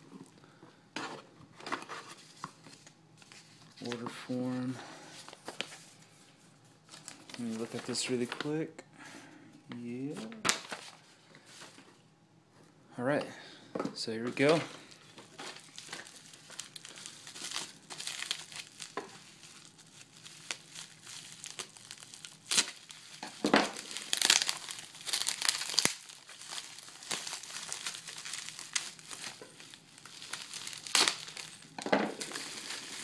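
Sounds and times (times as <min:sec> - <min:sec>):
bubble wrap crinkling: 0:01.8 - 0:08.7, 0:09.7 - 0:11.9, 0:14.4 - 0:33.0.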